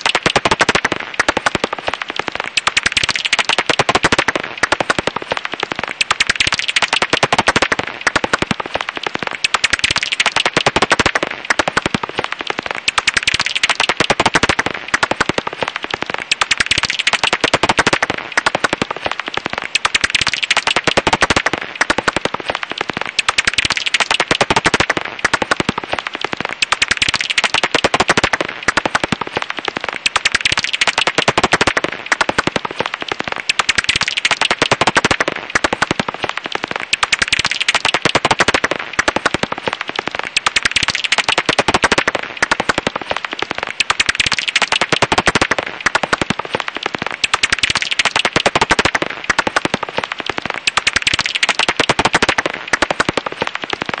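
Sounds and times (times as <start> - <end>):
bat echolocation clicks crackling: 0.0 - 54.0.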